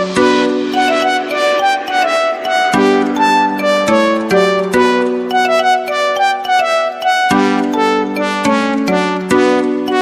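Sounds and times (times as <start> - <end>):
light plucked and keyboard melody: 0.0 - 10.0.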